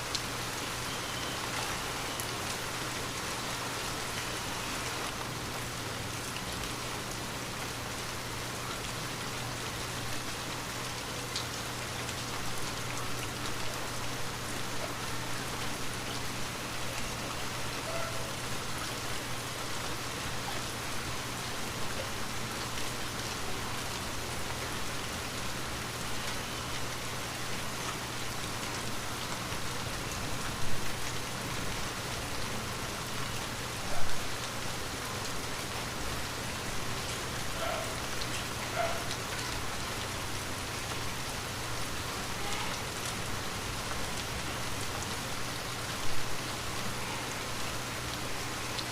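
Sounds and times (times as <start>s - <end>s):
light rain pattering: 0.0s - 48.9s.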